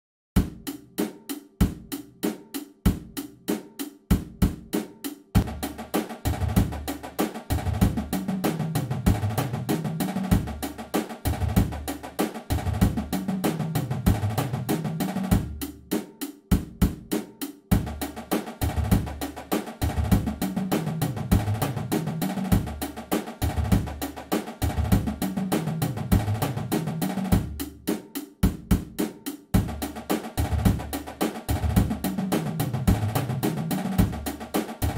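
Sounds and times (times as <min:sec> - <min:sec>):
snare and tenor drums: 0:00.4 - 0:34.9.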